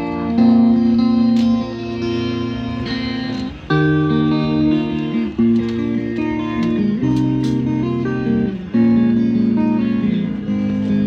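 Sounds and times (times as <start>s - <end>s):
strummed guitar chords: 0.0s - 11.0s.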